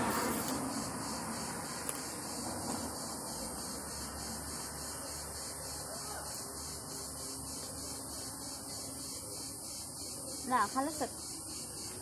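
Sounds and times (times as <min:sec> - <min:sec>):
high-pitched insect buzzing: 0:00.0 - 0:12.0.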